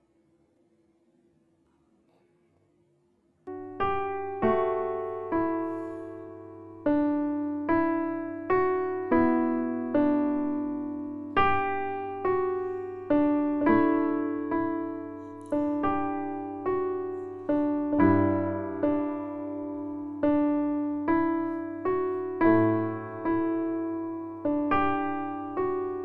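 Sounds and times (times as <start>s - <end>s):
gentle piano melody: 3.5s - 26.0s.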